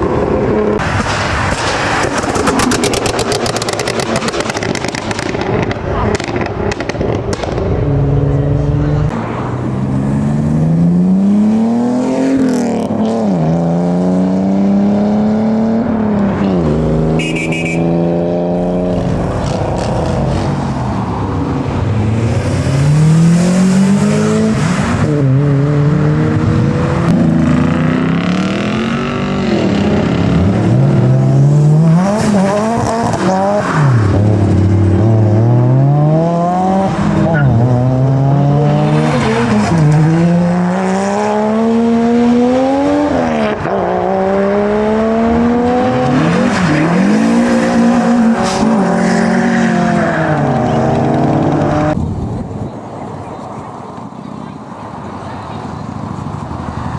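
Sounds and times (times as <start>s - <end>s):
car engines revving through gears: 0.0s - 52.5s.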